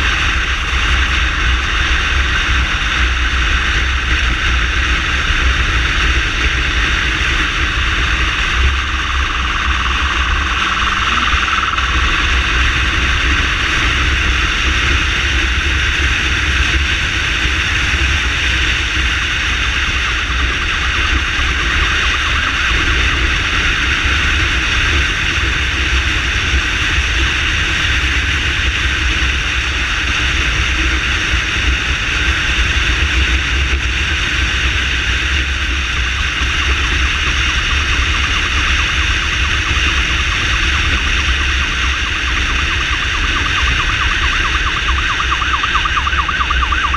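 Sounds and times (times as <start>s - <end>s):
motorcycle engine and road noise: 0.0s - 46.9s.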